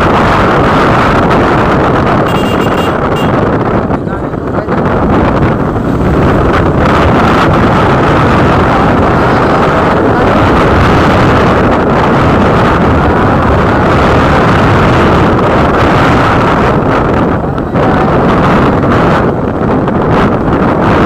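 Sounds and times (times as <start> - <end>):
motorcycle noise: 0.0 - 21.0
wind rushing on microphone: 0.0 - 21.0.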